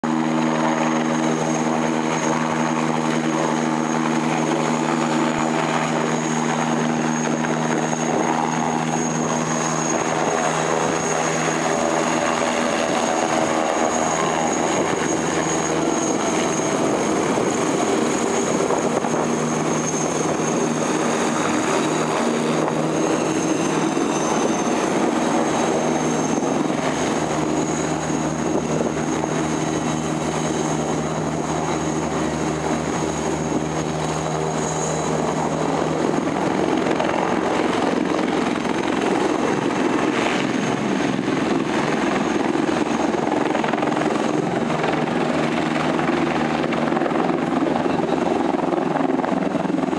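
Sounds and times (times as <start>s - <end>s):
helicopter rotor noise: 0.0s - 49.9s
high turbine whine: 0.1s - 49.9s.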